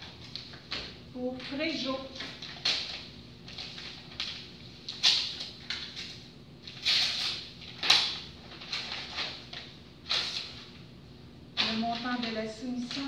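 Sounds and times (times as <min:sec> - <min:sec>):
paper sheets rustling: 0:00.1 - 0:10.7.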